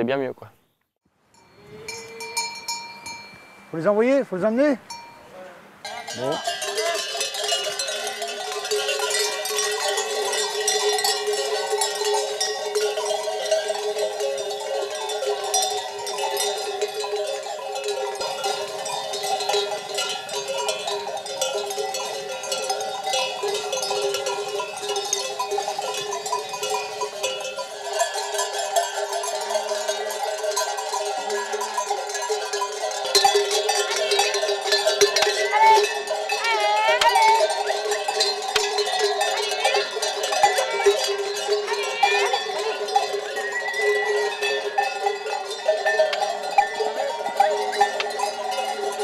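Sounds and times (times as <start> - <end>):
sheep bells clanking: 1.3 - 49.0.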